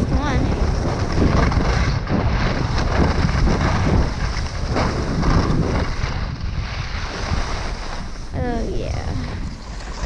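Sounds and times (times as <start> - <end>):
wind rushing over microphone: 0.0 - 10.0
skis hissing over snow: 0.1 - 10.0.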